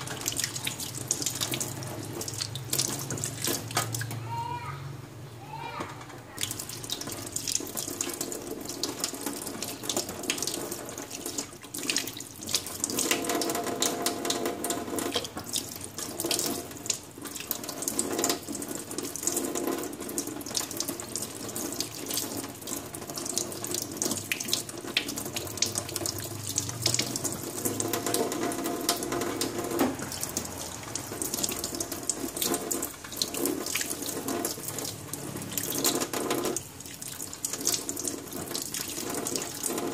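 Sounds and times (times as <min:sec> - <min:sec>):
tap water running into sink: 0:00.0 - 0:04.2, 0:06.4 - 0:39.9.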